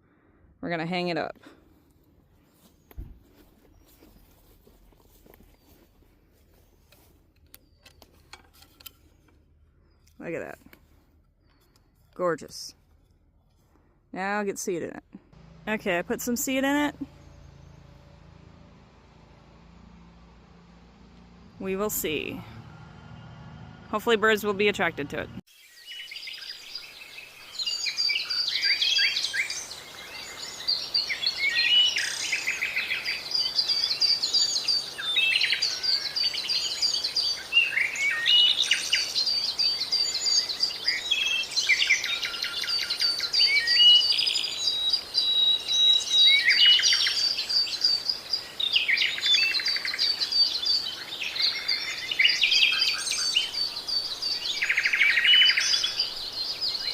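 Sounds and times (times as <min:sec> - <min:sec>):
songbirds chirping and trilling: 0:01.7 - 0:13.0, 0:13.7 - 0:56.9.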